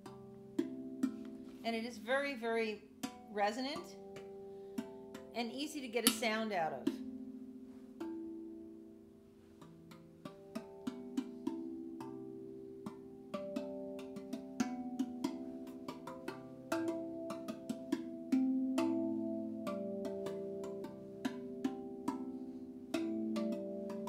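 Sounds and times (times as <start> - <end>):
steel tongue drum notes: 0.0 - 24.0.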